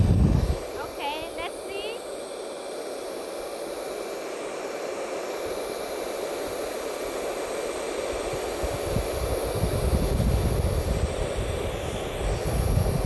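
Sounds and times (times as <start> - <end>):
cordless vacuum cleaner running: 0.0 - 13.0.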